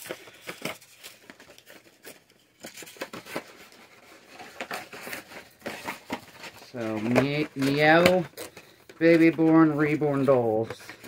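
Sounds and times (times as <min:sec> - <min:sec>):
plastic and cardboard rustling: 0:00.0 - 0:11.0.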